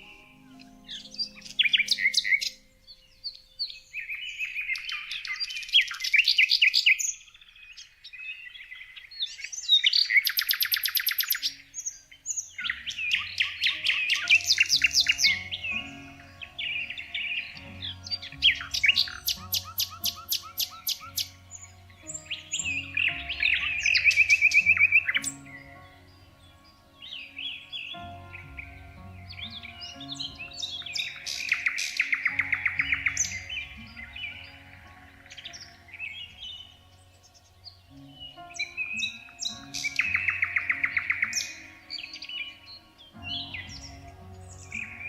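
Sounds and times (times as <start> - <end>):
soft background music: 0.0 - 45.0
songbirds singing: 0.0 - 45.0.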